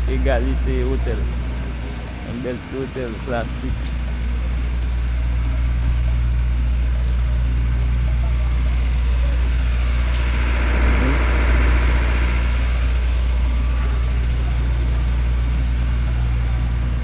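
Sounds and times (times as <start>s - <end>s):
street noise: 0.0s - 17.0s
vehicle engine rumbling: 0.0s - 17.0s.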